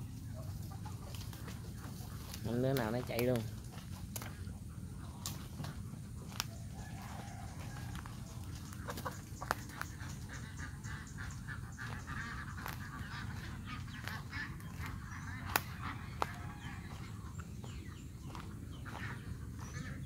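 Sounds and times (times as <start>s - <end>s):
chickens calling: 0.0s - 20.0s.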